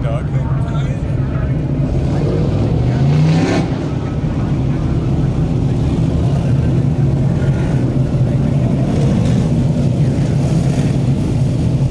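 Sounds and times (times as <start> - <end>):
racecar engines droning: 0.0 - 11.9.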